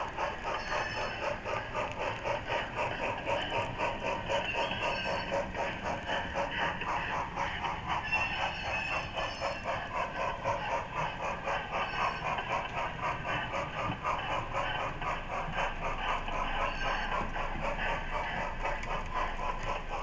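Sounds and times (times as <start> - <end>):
model train clicking on track: 0.0 - 20.0.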